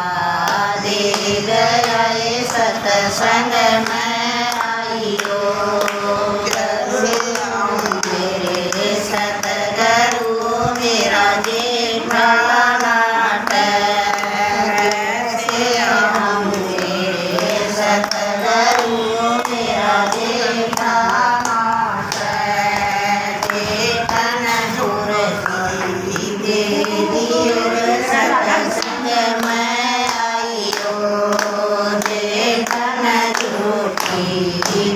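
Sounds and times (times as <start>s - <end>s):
women singing in unison: 0.0s - 34.9s
hand claps: 0.3s - 34.9s.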